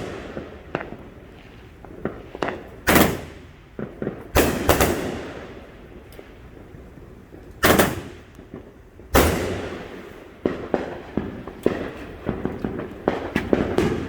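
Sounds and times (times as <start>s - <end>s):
firework pops and crackles: 0.0s - 14.0s
fireworks bangs: 0.0s - 14.0s.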